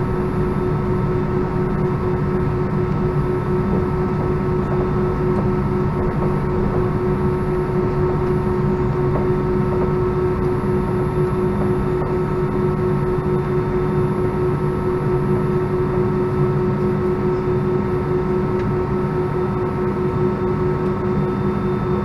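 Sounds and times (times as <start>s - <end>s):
aircraft engines idling hum and whine: 0.0s - 22.0s.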